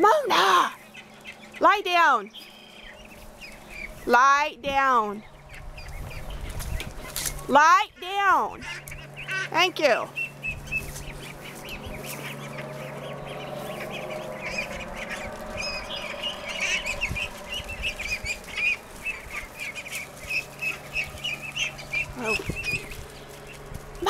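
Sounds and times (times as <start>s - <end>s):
ducklings peeping: 0.1s - 24.0s.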